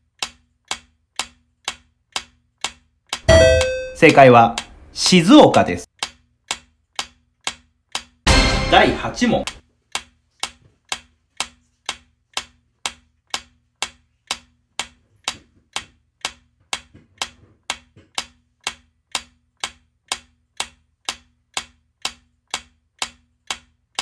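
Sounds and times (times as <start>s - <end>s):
timer ticking: 0.0s - 24.0s.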